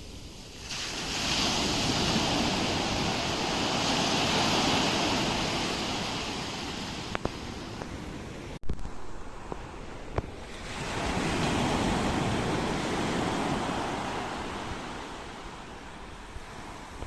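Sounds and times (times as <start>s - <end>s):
ocean wave rushing: 0.0s - 8.6s, 9.2s - 17.0s.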